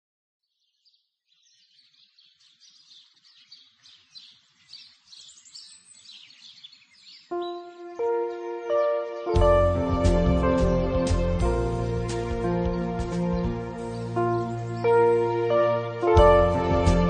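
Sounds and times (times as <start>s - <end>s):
small birds chirping: 0.4s - 15.3s.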